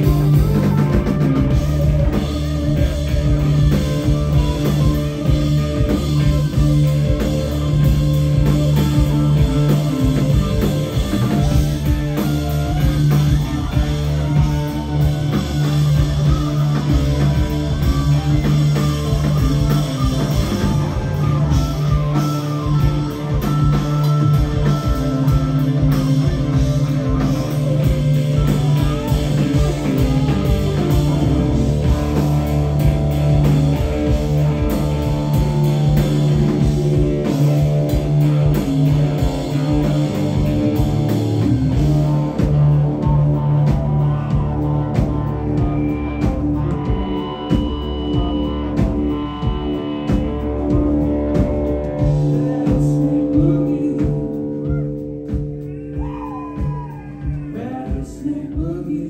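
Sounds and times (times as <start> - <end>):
rock band playing instrumental: 0.0 - 59.0.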